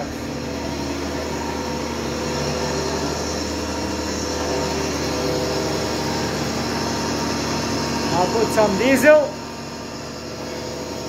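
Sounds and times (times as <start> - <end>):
planer motor hum: 0.0 - 11.0.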